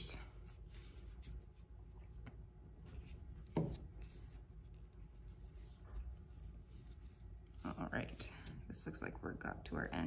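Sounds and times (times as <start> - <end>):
hands rubbing and rustling paper: 0.0 - 8.8.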